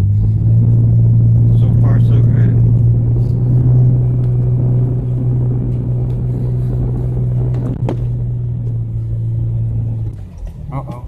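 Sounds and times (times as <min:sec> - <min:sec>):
car engine drone: 0:00.0 - 0:11.0
low road rumble: 0:00.0 - 0:11.0.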